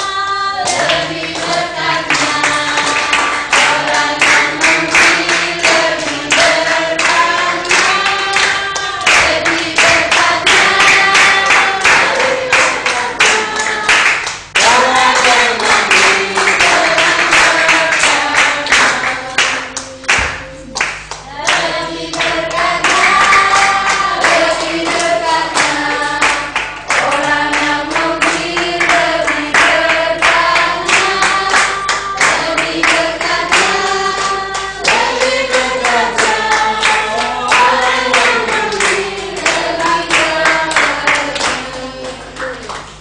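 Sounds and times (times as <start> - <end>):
group singing a worship song: 0.0 - 42.8
hands clapping to the beat: 0.6 - 43.0.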